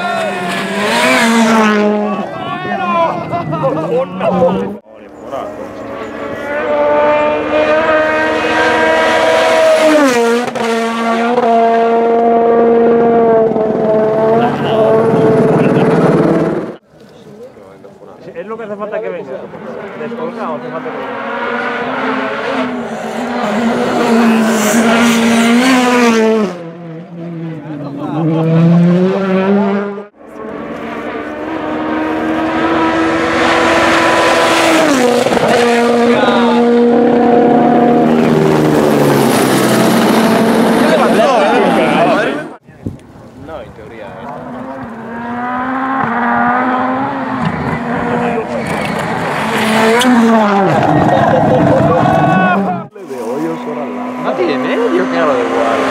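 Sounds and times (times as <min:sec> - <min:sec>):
rally car engine revving: 0:00.0 - 0:16.8, 0:19.3 - 0:42.6, 0:44.1 - 0:55.9.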